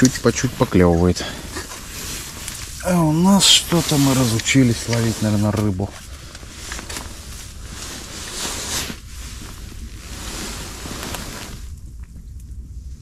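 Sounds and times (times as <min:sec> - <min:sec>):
wind against tent fabric: 0:00.0 - 0:13.0.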